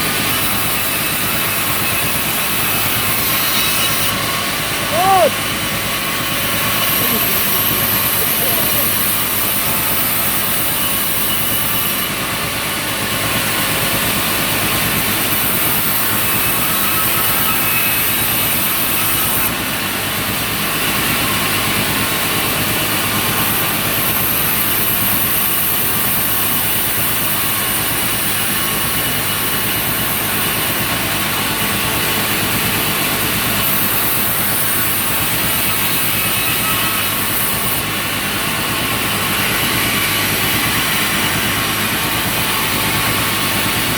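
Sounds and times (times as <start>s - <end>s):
sawmill machinery running: 0.0s - 43.9s.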